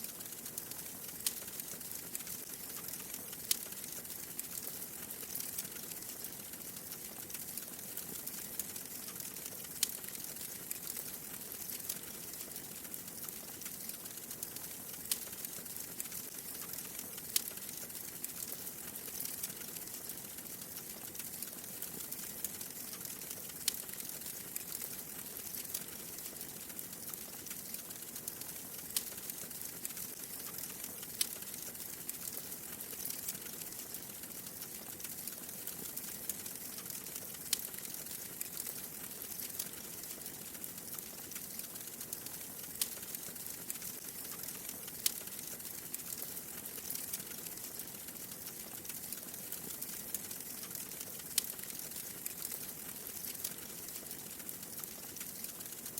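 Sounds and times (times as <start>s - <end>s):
wood fire crackling: 0.0s - 55.9s
fire popping: 0.1s - 55.9s.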